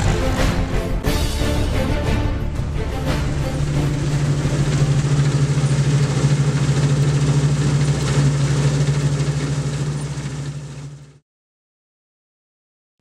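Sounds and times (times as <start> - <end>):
combine harvester engine drone: 0.0 - 11.2.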